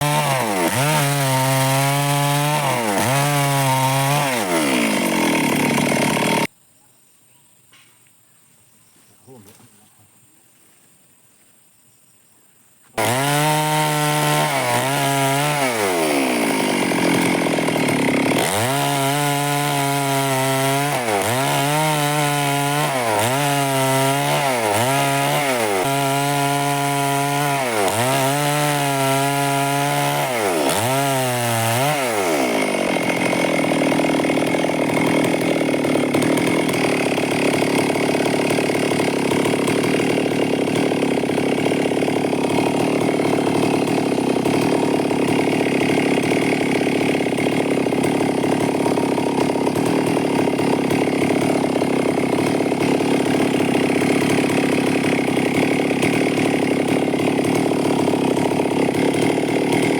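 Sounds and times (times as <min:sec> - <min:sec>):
chainsaw cutting wood: 0:00.0 - 0:06.5, 0:12.9 - 0:59.9.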